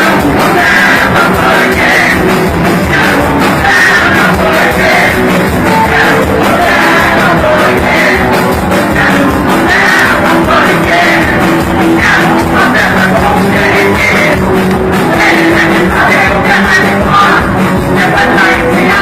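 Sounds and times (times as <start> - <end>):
person singing and shouting: 0.0 - 19.0
punk rock band playing: 0.0 - 19.0.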